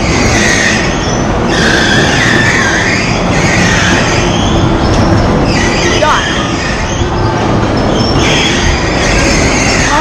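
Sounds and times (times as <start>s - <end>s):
bumper cars rumbling: 0.0s - 10.0s
bumper cars squealing: 0.0s - 10.0s.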